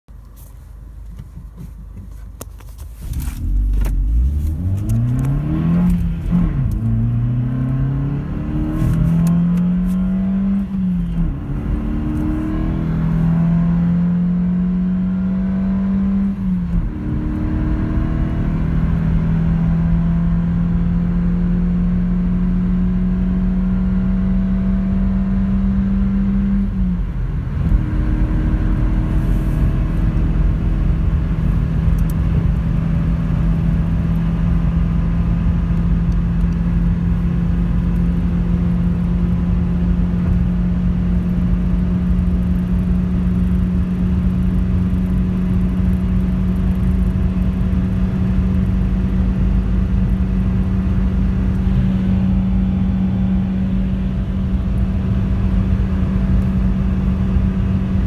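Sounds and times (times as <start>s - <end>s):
car engine accelerating: 0.4s - 58.0s.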